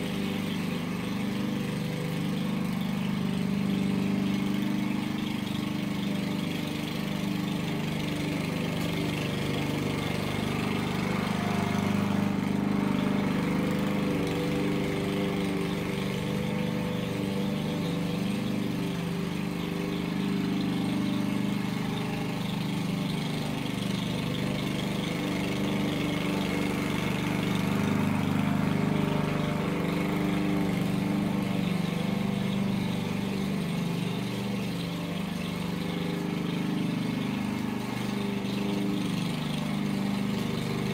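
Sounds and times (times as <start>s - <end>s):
lawn mower cutting grass: 0.0s - 40.9s.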